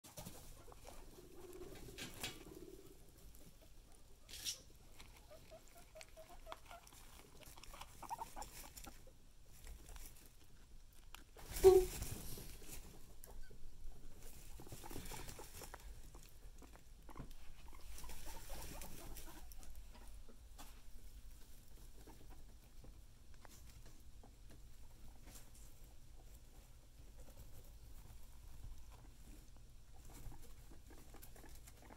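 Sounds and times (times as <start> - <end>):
guinea pig rustling in hay: 0.0 - 31.9
guinea pig low calls: 0.1 - 20.3, 21.1 - 31.9.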